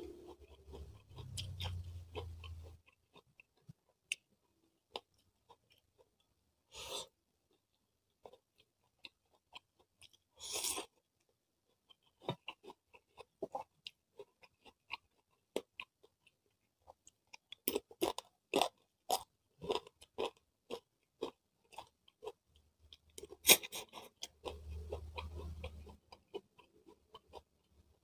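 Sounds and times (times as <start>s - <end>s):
wet chewing and crunching: 0.0s - 6.3s, 7.5s - 28.0s.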